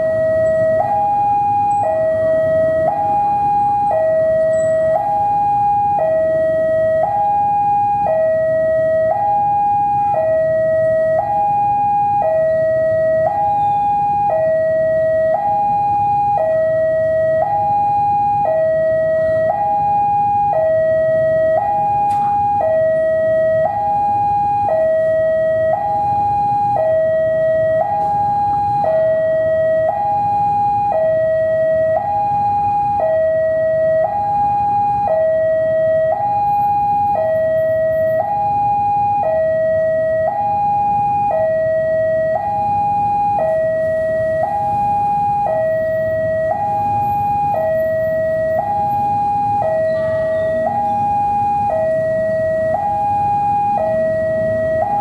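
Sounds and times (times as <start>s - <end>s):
two-tone level crossing alarm: 0.0s - 55.0s.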